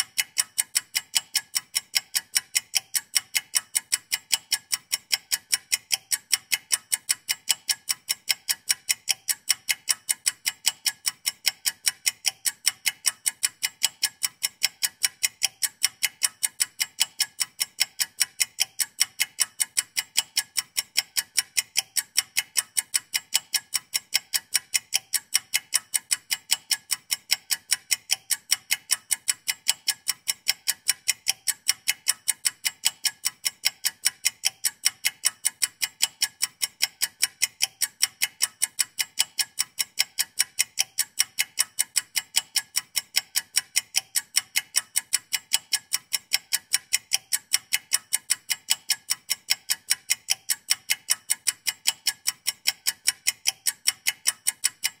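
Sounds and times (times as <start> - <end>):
fast clock ticking: 0.0 - 55.0.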